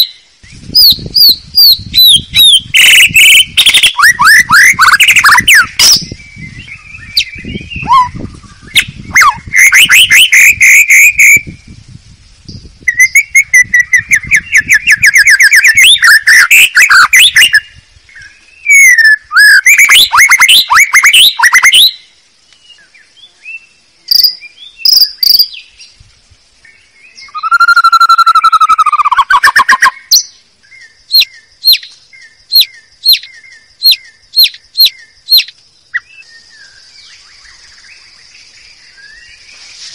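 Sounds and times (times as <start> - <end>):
bird trills and whistles: 0.0 - 11.7, 12.5 - 22.1, 27.2 - 38.0.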